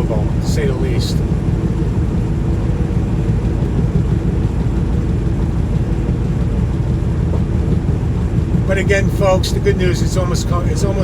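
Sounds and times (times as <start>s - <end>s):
faint steady hum: 0.0s - 11.0s
road noise: 0.0s - 11.0s
truck engine droning: 0.0s - 11.0s.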